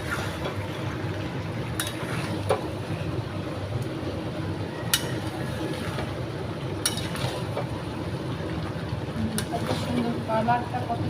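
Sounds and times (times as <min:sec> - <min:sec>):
curry cooking in a pan: 0:00.0 - 0:11.0.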